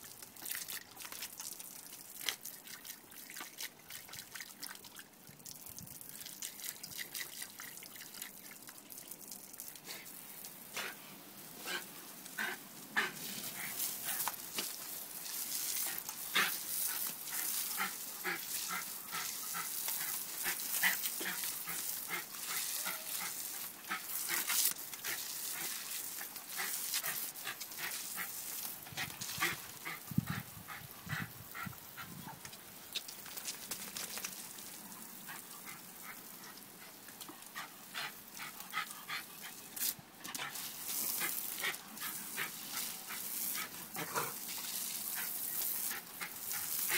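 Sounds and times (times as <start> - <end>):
hose water spray hissing: 8.9 - 46.9.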